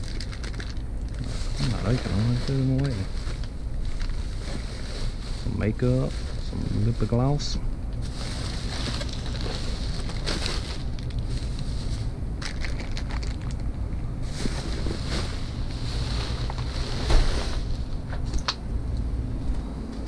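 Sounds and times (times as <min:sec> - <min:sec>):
plastic packaging rustling: 0:00.0 - 0:17.9.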